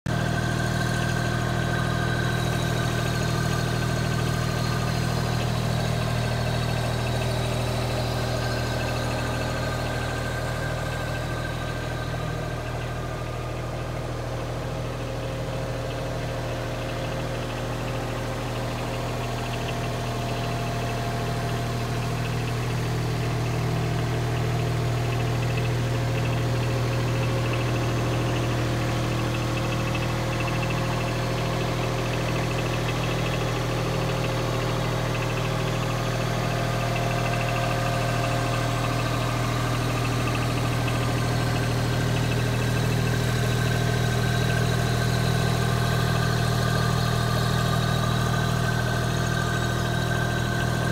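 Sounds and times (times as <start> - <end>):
diesel engine idling: 0.1 - 50.9.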